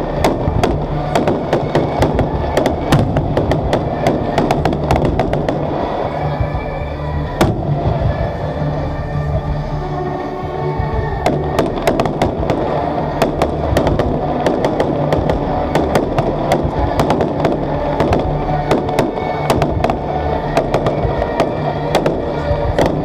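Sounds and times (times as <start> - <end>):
fireworks bangs and crackles: 0.0 - 8.8, 10.9 - 23.0.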